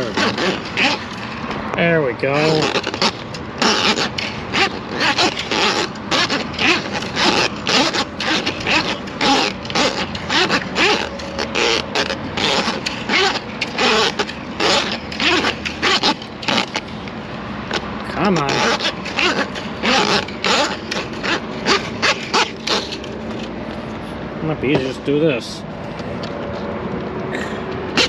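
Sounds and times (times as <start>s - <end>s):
drain snake cable rattling: 0.0s - 23.6s.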